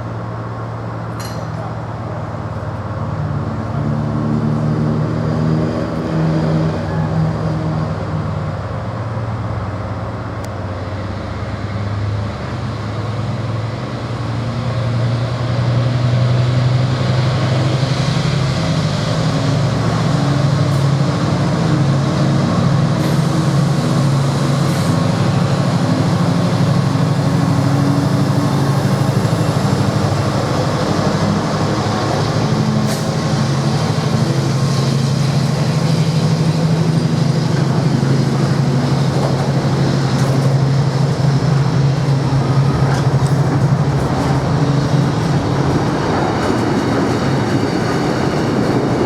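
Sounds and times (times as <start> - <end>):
diesel locomotive engine: 0.0 - 49.0.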